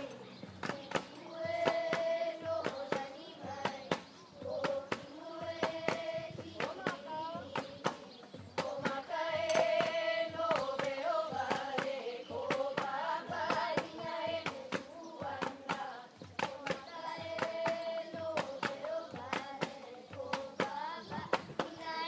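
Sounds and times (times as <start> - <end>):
children singing together: 0.0 - 22.0
sharp percussive taps: 0.4 - 21.9.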